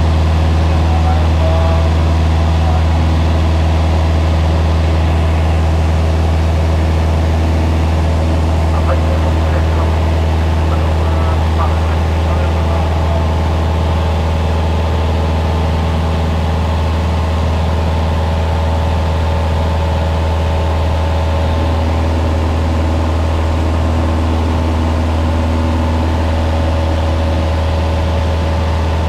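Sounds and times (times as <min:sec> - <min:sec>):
aircraft engine and propeller drone: 0:00.0 - 0:29.0.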